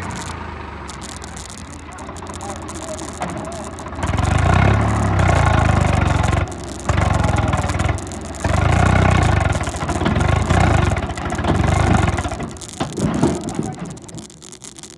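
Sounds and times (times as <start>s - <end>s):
tractor diesel engine revving: 0.0s - 13.2s.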